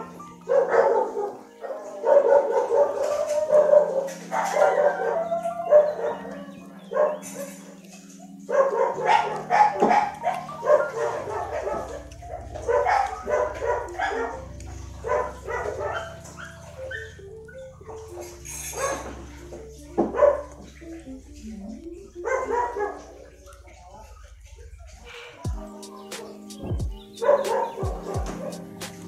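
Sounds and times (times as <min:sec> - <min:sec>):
dog barking: 0:00.0 - 0:17.1, 0:17.8 - 0:19.4, 0:20.0 - 0:20.7, 0:21.6 - 0:26.5, 0:27.2 - 0:28.7
background music: 0:00.0 - 0:29.0.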